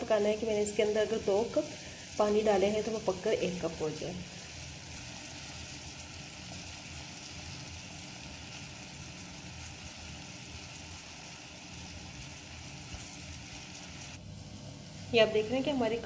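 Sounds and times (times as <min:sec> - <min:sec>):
saucepan simmering hiss: 0:00.0 - 0:16.0.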